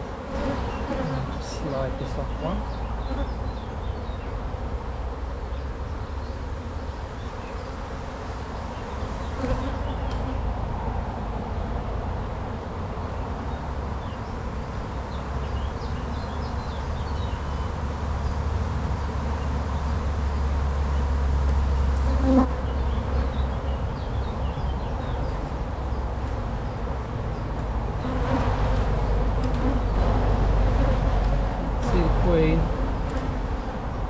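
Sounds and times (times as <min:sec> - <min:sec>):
honey bees buzzing: 0:00.0 - 0:34.0.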